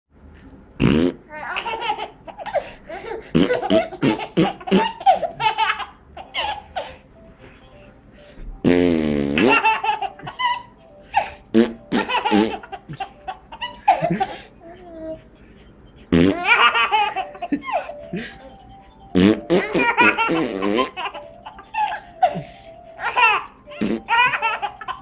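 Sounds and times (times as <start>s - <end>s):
baby laughing: 1.3s - 7.0s, 9.4s - 15.5s, 16.1s - 25.0s.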